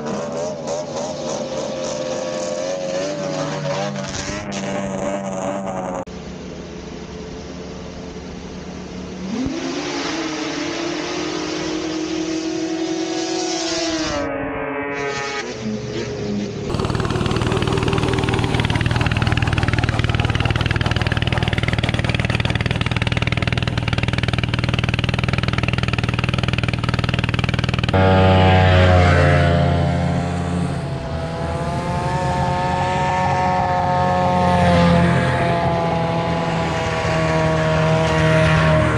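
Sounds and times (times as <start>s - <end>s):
snowmobile engine revving: 0.0s - 6.1s, 9.2s - 38.9s
low engine drone: 0.0s - 38.9s.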